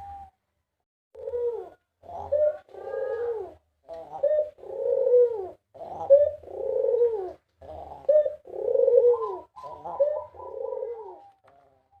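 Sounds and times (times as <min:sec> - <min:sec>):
dove cooing: 0:00.0 - 0:00.4, 0:01.2 - 0:12.0.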